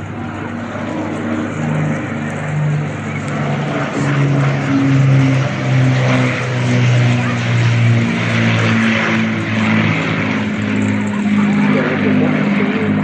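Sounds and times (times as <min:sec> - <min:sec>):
propeller aircraft engine flying past: 0:00.0 - 0:13.0.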